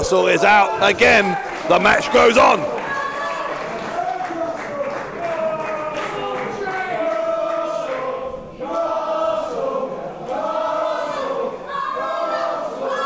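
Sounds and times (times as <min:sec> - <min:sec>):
crowd chanting: 0:00.0 - 0:13.0.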